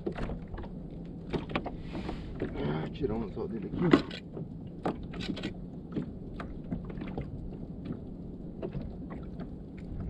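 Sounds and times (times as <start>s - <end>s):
wind and water rushing: 0.0s - 10.0s.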